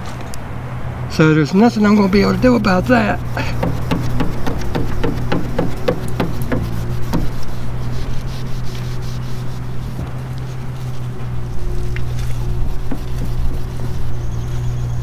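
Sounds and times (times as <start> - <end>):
steady low hum: 0.0 - 15.0
rag rubbing plastic lens: 1.8 - 15.0.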